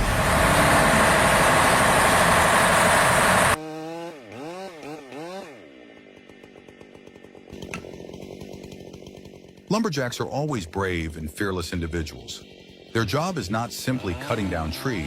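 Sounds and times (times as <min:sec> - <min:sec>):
chainsaw running at full throttle: 0:00.0 - 0:15.0
small engine revving and idling: 0:00.0 - 0:15.0.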